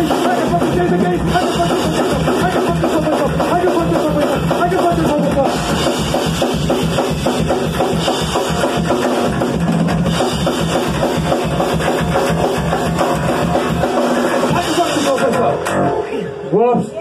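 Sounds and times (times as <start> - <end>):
drum kit pounding fast beat: 0.0 - 16.1
guitar: 0.0 - 17.0.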